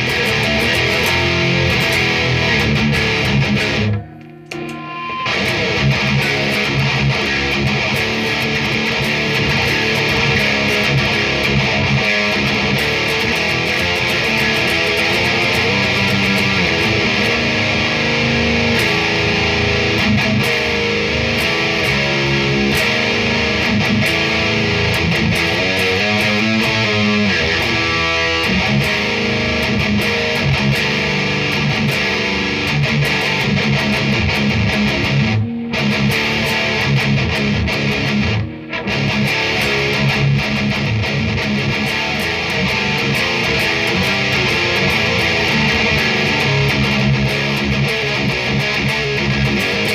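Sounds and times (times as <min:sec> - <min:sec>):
distorted electric guitar riffs: 0:00.0 - 0:49.9.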